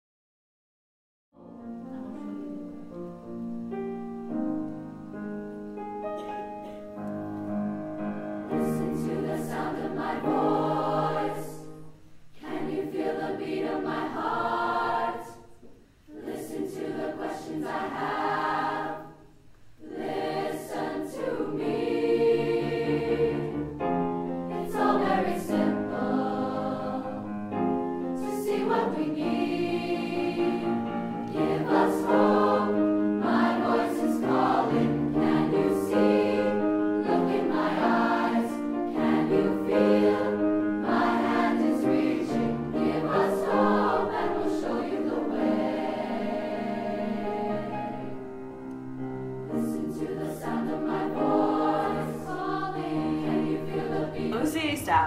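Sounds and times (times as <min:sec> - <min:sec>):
choir singing: 0:07.0 - 0:48.4, 0:49.0 - 0:55.0.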